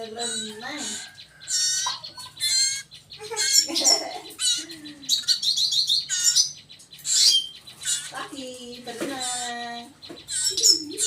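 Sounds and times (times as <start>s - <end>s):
young songbirds chirping: 0.0s - 11.0s.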